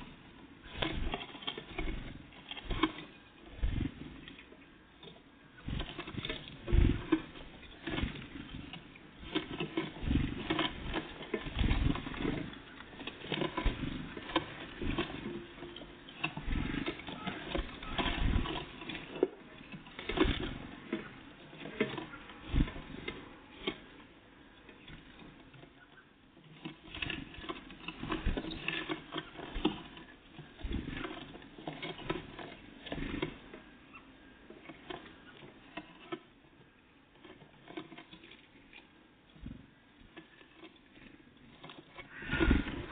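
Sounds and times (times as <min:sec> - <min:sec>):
birds pecking at seed feeder: 0:00.0 - 0:42.9.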